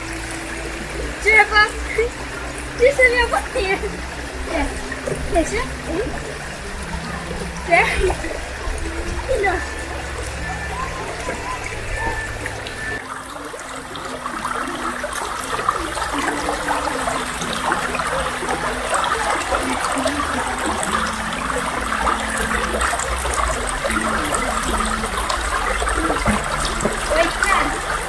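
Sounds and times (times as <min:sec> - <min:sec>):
stream trickling over stones: 0:00.0 - 0:28.0.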